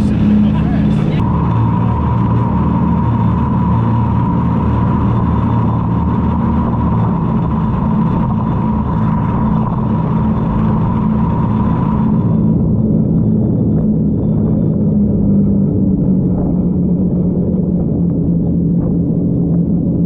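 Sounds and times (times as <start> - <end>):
jet boat engine drone: 0.0 - 20.0
wind and water noise: 0.0 - 20.0.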